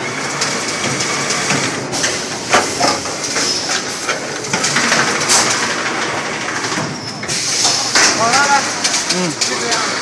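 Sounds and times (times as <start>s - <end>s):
steady machine noise: 0.0s - 10.0s.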